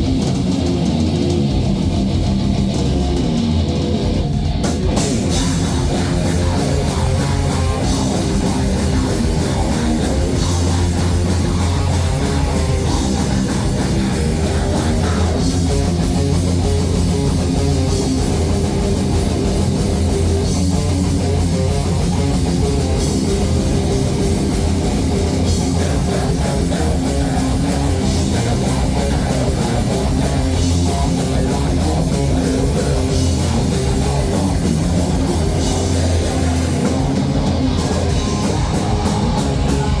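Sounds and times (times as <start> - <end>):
live heavy rock band: 0.0 - 40.0.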